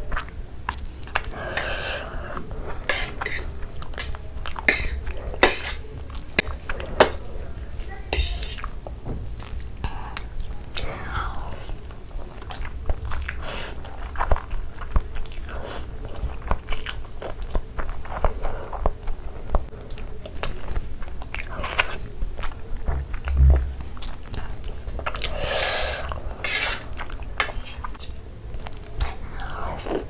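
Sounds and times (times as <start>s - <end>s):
mouth chewing noodles: 0.0s - 30.0s.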